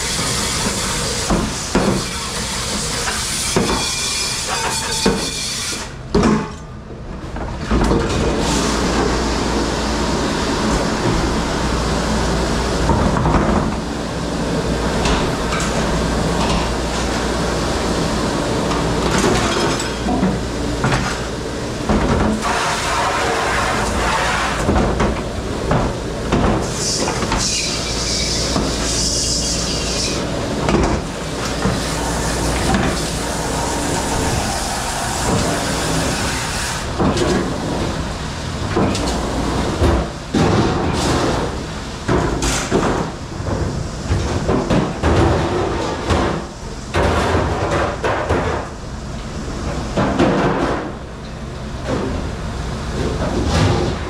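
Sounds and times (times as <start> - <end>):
dishwashing machine running: 0.0 - 54.0.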